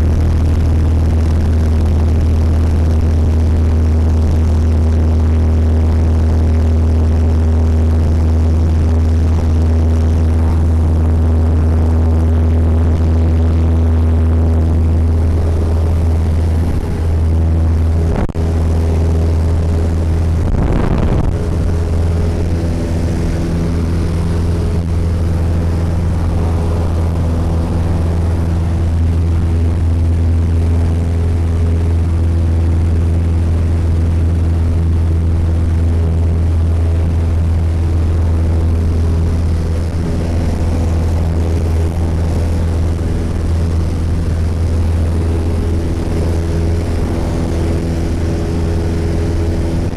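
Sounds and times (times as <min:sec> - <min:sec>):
light aircraft engine drone: 0:00.0 - 0:49.9.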